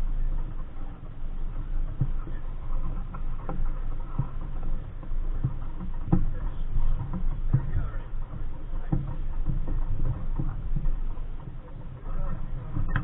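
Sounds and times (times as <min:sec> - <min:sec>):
wind rumbling on microphone: 0:00.0 - 0:13.0
water slapping against hull: 0:00.2 - 0:13.0.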